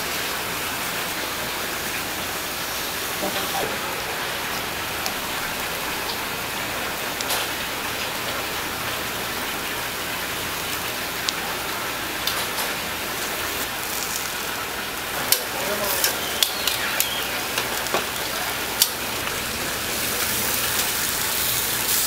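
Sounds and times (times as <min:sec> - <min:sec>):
fish sizzling on a grill: 0:00.1 - 0:22.0.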